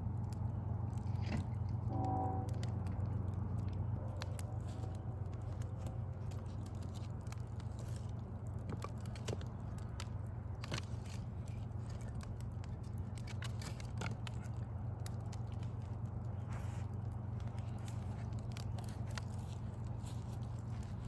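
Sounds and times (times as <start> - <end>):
low background rumble: 0.0 - 21.0
wood fire crackling and popping: 0.0 - 21.0.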